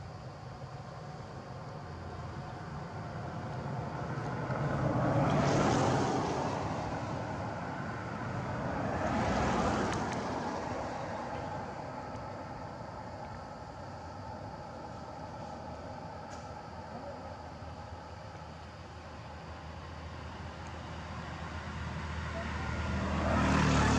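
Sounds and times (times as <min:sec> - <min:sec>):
vehicles passing: 0:00.0 - 0:23.9.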